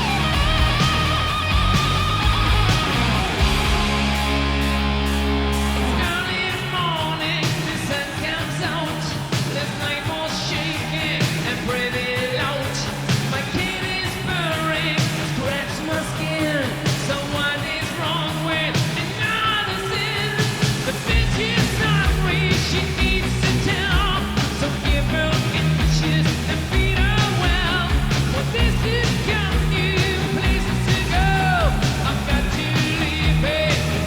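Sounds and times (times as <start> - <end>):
bass: 0.0 - 34.0
distorted electric guitars: 0.0 - 34.0
drums: 0.0 - 34.0
person singing: 5.8 - 34.0.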